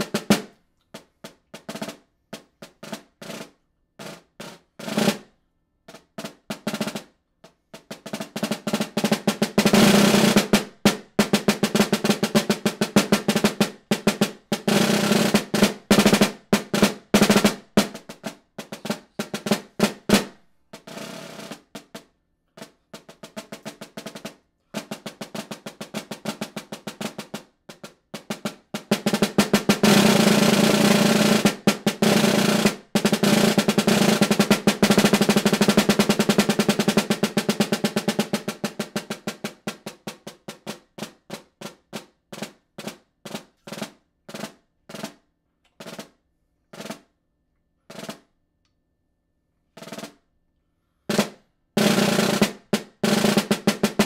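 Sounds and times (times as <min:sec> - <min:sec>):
snare drum strokes and rolls: 0:00.0 - 0:05.3, 0:05.9 - 0:45.2, 0:45.8 - 0:47.1, 0:47.9 - 0:48.3, 0:49.8 - 0:50.2, 0:51.1 - 0:54.0.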